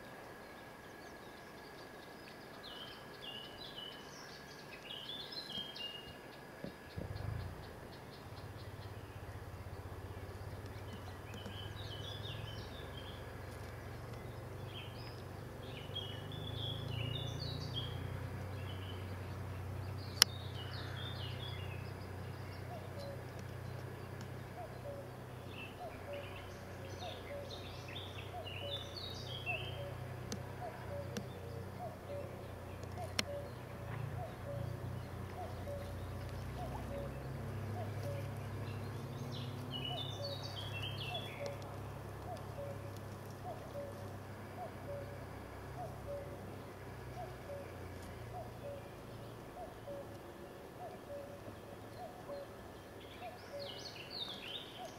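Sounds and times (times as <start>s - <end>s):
low steady hum: 0.0s - 54.9s
songbirds chirping: 0.0s - 54.9s.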